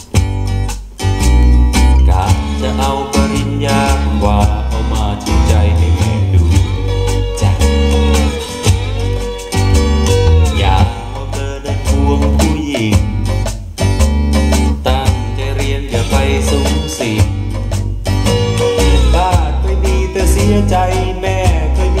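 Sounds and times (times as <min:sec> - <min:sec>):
instrumental pop-rock song: 0:00.0 - 0:22.0.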